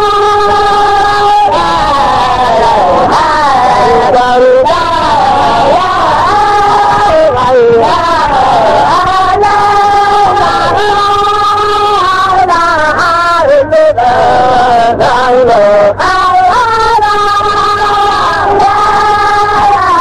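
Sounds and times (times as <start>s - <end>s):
voices chanting in unison: 0.0s - 20.0s.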